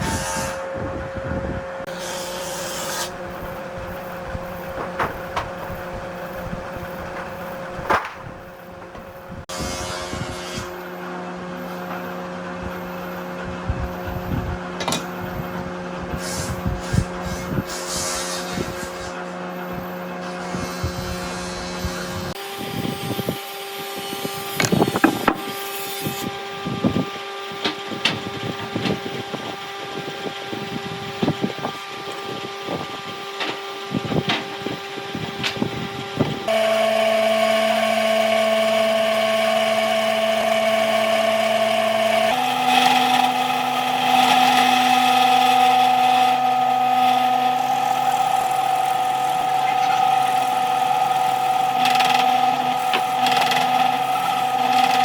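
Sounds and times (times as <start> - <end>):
high-pitched tool whine: 0.0 - 55.0
power tool motor humming: 9.4 - 55.0.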